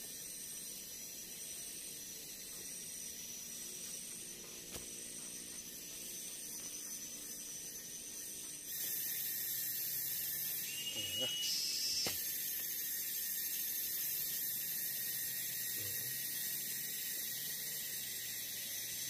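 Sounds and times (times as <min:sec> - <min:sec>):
jungle ambience hiss: 0:00.0 - 0:19.0.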